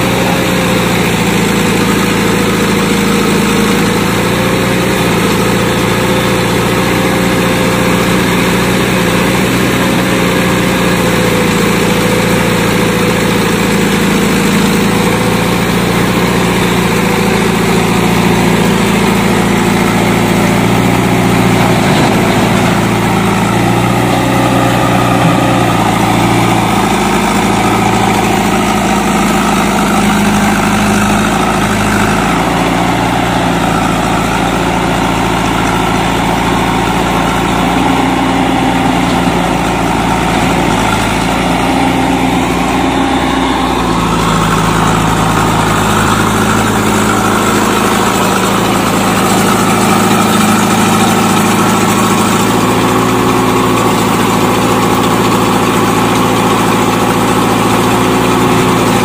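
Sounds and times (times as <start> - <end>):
backhoe diesel engine running: 0.0 - 59.0
tractor diesel engine running: 0.0 - 59.0.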